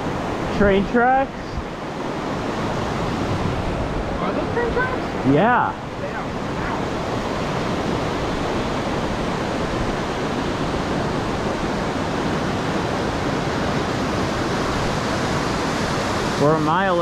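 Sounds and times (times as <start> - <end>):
fast-flowing creek water: 0.0 - 17.0.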